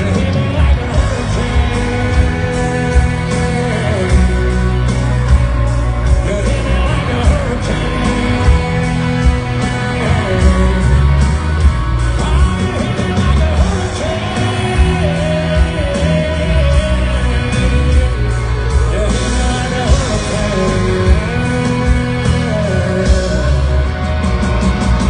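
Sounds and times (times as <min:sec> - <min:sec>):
bass: 0:00.0 - 0:25.0
electric guitar: 0:00.0 - 0:25.0
person singing: 0:00.0 - 0:25.0
steady drum beat: 0:00.0 - 0:25.0.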